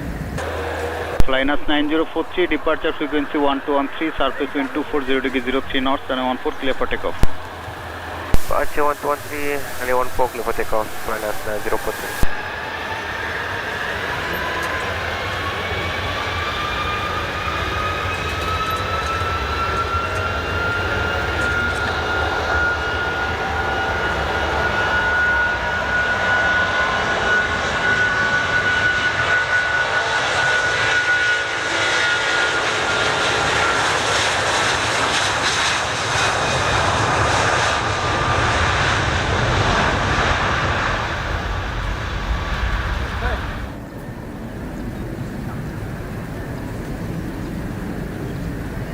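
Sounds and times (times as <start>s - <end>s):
deep jet engine roar: 0.0s - 48.9s
jet engine whine rising: 0.0s - 48.9s.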